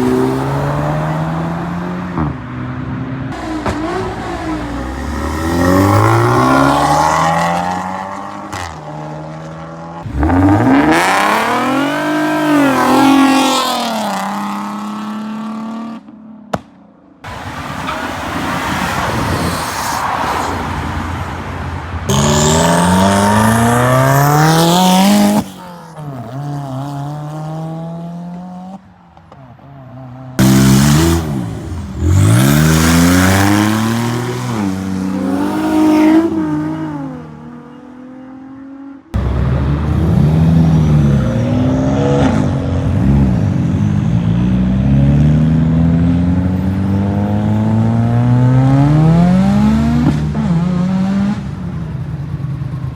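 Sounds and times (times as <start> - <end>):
car engines revving and accelerating: 0.0 - 16.1, 17.2 - 52.9.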